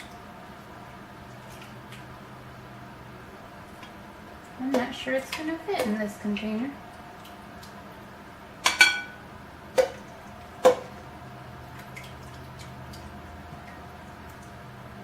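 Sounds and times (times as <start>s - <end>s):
juice dripping: 0.0s - 15.0s.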